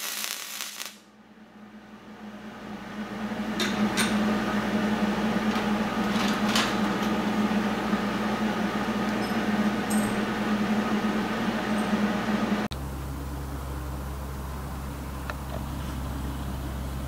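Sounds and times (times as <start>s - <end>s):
workshop machine humming: 1.1s - 17.0s.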